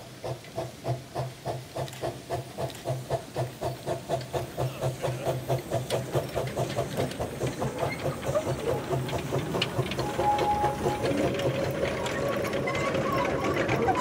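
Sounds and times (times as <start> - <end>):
steam locomotive chuffing: 0.0 - 14.0
wagons rolling on rails: 1.8 - 14.0.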